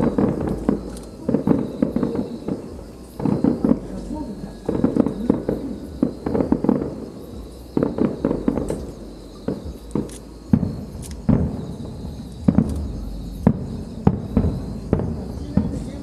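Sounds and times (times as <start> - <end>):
fireworks bangs: 0.0 - 16.0
low rumble: 2.8 - 15.9.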